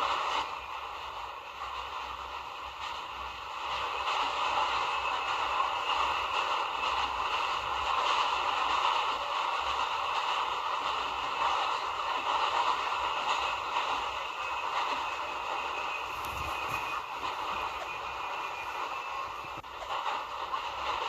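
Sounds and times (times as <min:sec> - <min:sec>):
train rolling with whining tones: 0:00.0 - 0:21.0.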